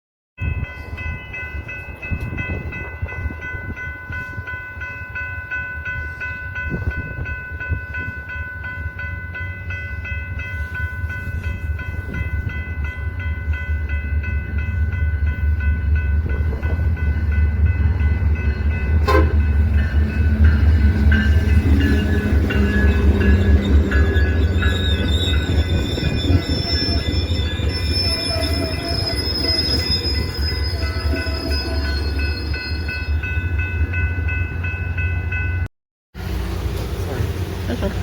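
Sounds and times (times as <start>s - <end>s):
railroad crossing bell ringing: 0.4s - 35.7s
train rumbling: 0.4s - 38.0s.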